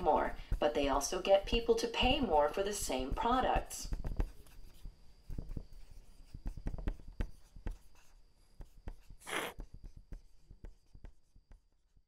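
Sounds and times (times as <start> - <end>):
marker writing on whiteboard: 0.0 - 12.0.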